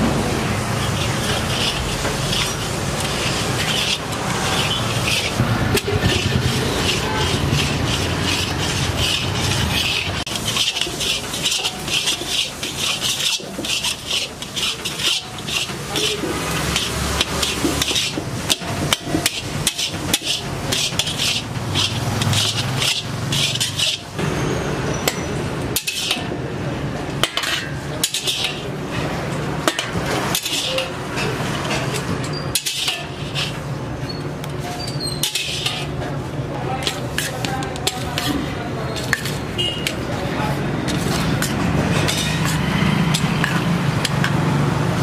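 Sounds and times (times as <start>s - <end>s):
metal spatula scraping iron pan: 0.4s - 44.4s.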